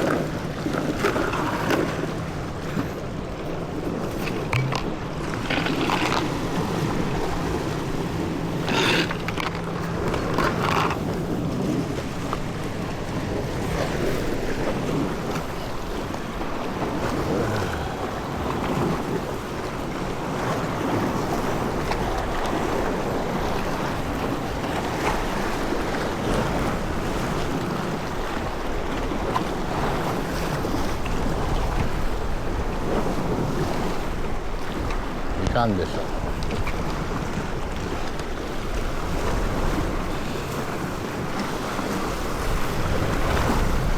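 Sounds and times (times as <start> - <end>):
water splashes: 0.0 - 43.9
waves: 0.0 - 43.9
wind buffeting microphone: 0.0 - 43.9.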